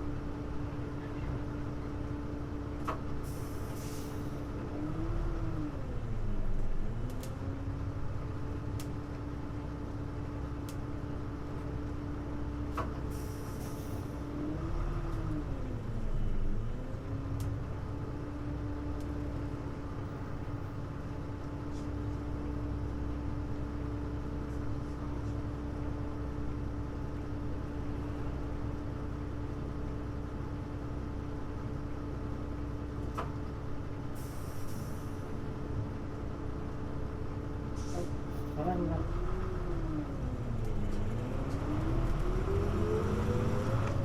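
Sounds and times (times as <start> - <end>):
bus drivetrain rumble: 0.0 - 44.0.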